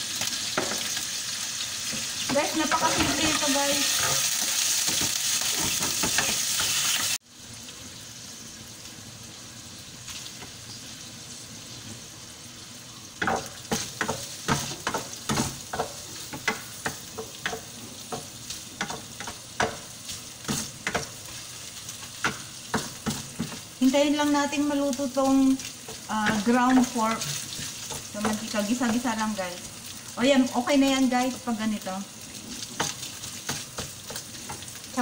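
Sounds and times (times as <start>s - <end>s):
meat sizzling in a frying pan: 0.0s - 35.0s.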